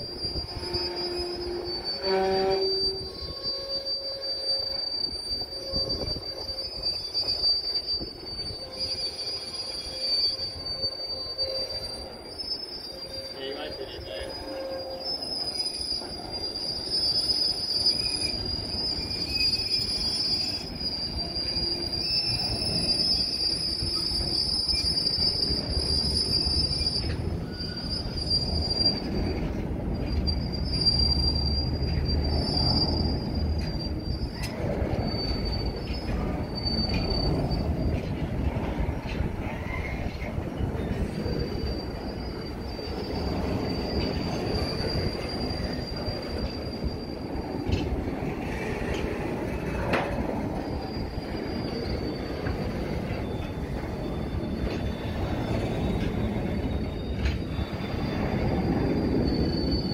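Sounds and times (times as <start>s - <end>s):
train wheels squealing on rails: 0.0s - 59.9s.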